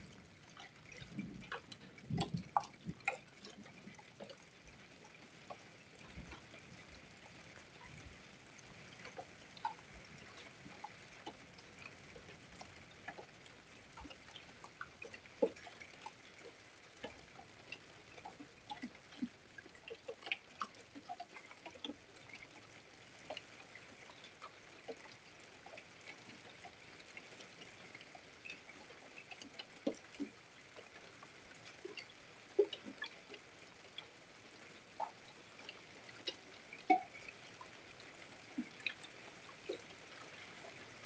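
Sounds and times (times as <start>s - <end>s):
faint steady rain hiss: 0.0s - 41.0s
raindrops tapping and dripping: 0.0s - 41.0s.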